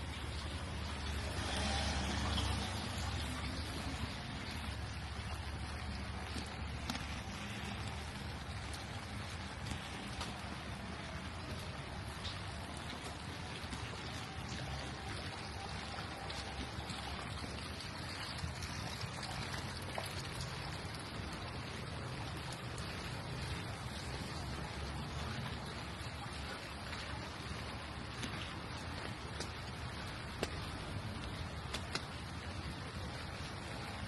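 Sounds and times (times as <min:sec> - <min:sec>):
faint drip-like ticks: 0:00.0 - 0:34.0
rain on a street: 0:00.0 - 0:34.0
water trickling and pouring: 0:00.0 - 0:34.0.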